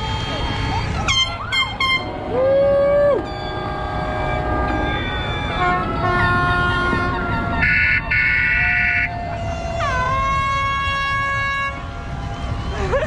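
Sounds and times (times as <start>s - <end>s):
boat horns blowing: 0.0s - 12.2s
loud horn blast: 0.9s - 12.0s.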